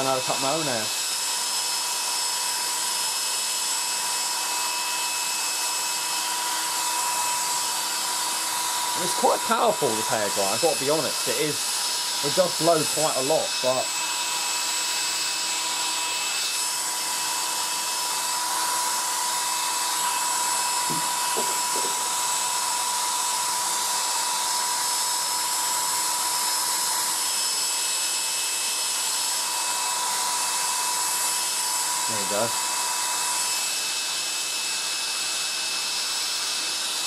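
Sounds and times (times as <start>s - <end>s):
hairdryer blowing air: 0.0s - 37.0s.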